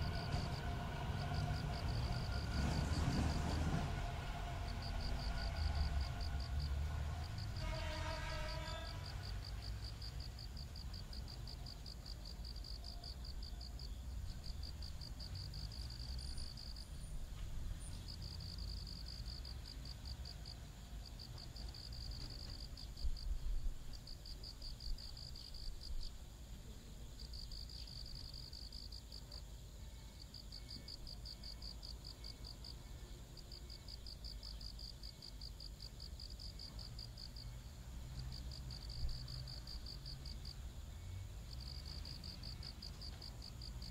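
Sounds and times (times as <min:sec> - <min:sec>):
insect chirping: 0:00.0 - 0:43.9.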